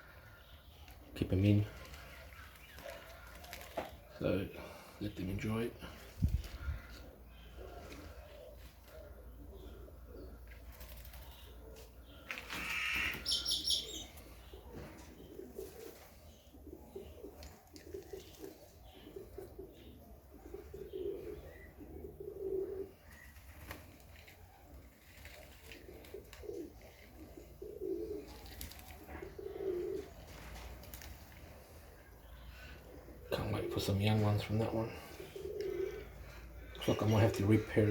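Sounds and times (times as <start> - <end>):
pigeons cooing: 0.0 - 37.9.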